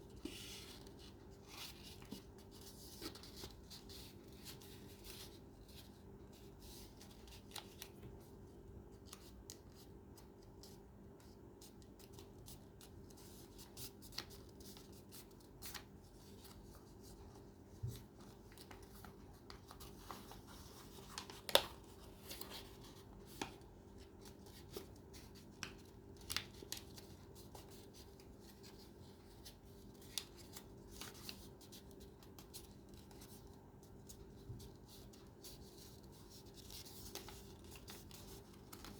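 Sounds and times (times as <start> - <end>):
paper rustling and creasing: 0.1 - 8.3, 13.1 - 38.9.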